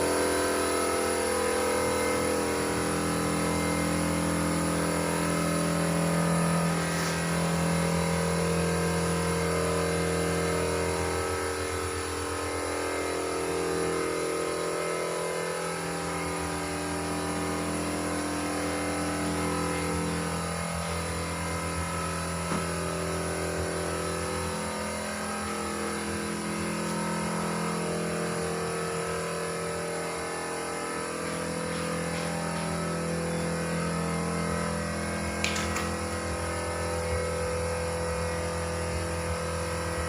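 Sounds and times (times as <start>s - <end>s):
motor humming: 0.0s - 40.0s.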